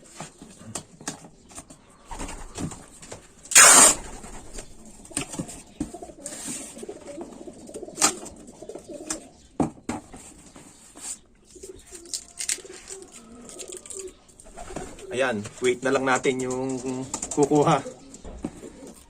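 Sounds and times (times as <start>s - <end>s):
pigeons cooing: 1.9s - 19.0s.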